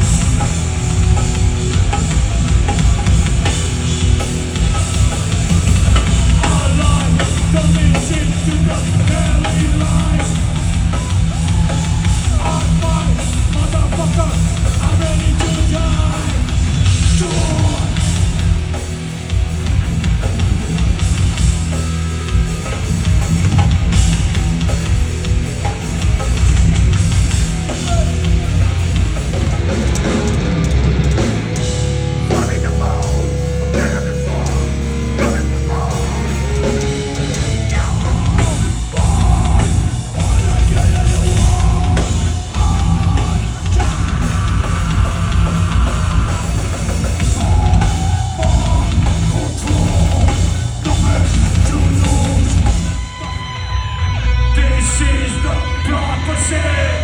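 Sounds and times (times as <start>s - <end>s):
drum kit: 0.0s - 55.8s
distorted electric guitars: 0.0s - 57.0s
heavy metal band playing live: 0.0s - 57.0s.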